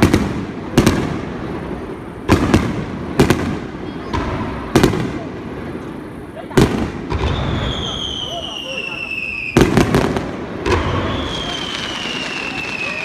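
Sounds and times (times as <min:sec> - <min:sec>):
fireworks booming with echo: 0:00.0 - 0:13.0.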